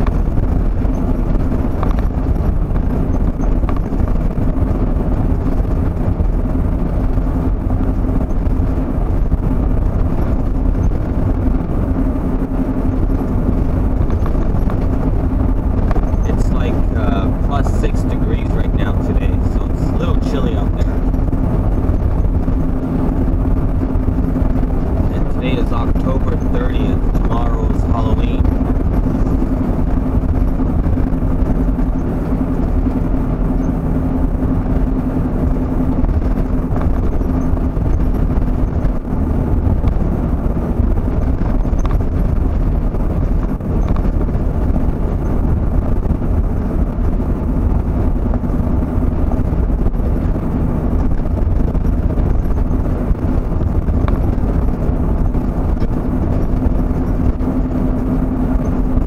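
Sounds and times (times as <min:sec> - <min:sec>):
constant hum: 0:00.0 - 0:59.0
vehicle road and engine rumble: 0:00.0 - 0:59.0.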